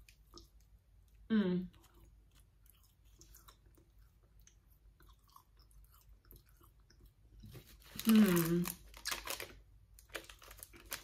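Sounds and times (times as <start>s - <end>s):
soft chewing of sticky toffee: 0.0s - 11.0s.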